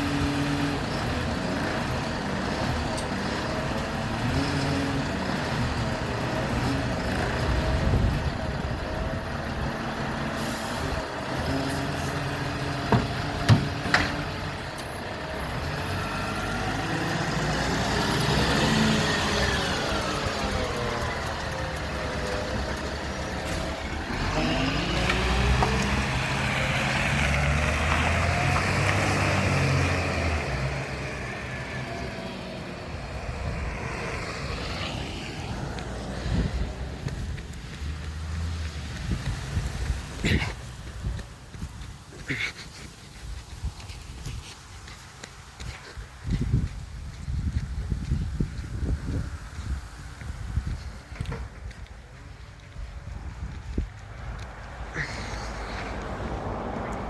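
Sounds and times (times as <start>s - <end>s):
garbage truck diesel engine: 0.0s - 57.0s.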